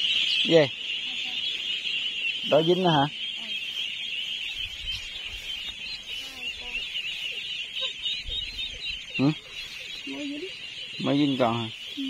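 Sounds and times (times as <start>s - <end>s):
high-pitched chirping chorus: 0.0s - 12.0s.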